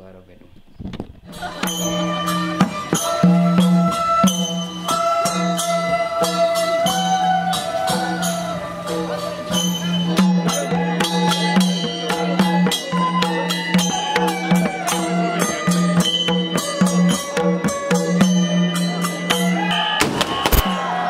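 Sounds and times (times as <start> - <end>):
drums: 0.9 - 21.0
crowd noise: 1.2 - 21.0
flute melody: 1.3 - 21.0
hand cymbals: 1.3 - 21.0.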